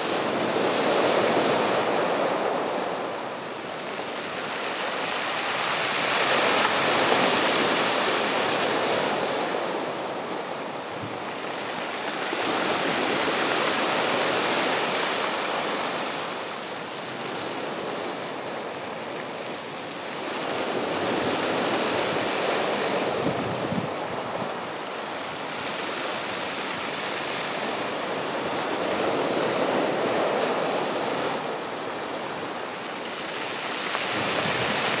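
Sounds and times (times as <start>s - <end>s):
surf on pebble beach: 0.0s - 35.0s.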